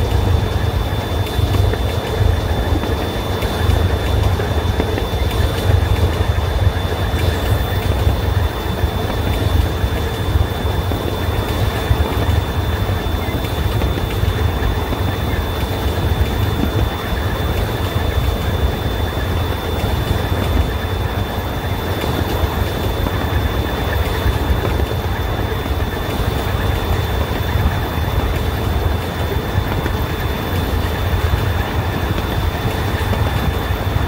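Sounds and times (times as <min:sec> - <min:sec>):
miniature train rumbling: 0:00.0 - 0:34.0.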